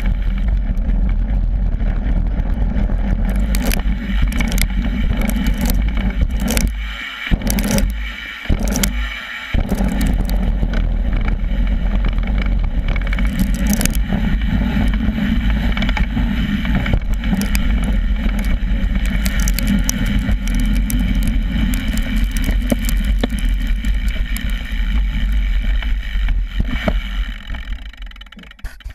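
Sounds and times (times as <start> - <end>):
tyres rumbling over gravel: 0.0 - 11.3, 12.0 - 27.9
bike chain and frame rattling: 3.2 - 10.5, 12.3 - 28.6.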